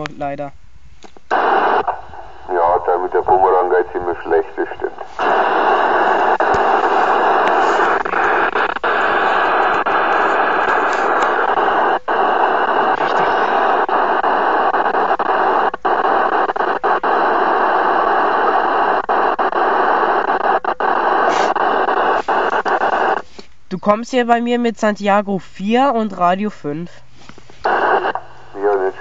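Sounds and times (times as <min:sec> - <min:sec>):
radio static rush: 0:01.3 - 0:29.0.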